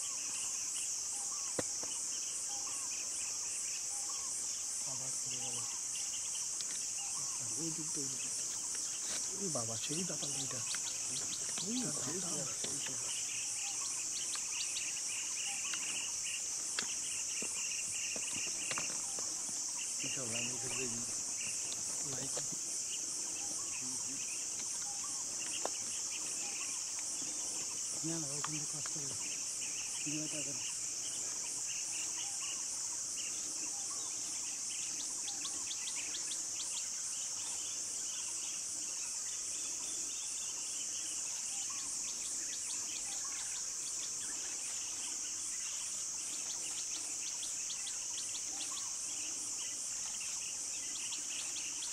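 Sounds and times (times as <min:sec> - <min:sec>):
insect chorus drone: 0:00.0 - 0:51.9.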